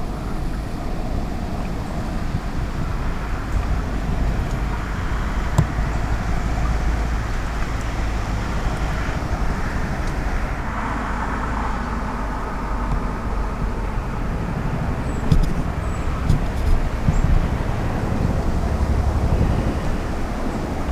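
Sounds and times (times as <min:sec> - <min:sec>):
helicopter rotors rumbling: 0:00.0 - 0:20.9.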